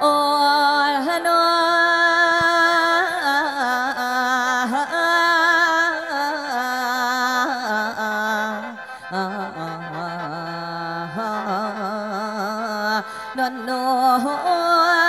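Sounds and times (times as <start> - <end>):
person singing with vibrato: 0.0 - 15.0.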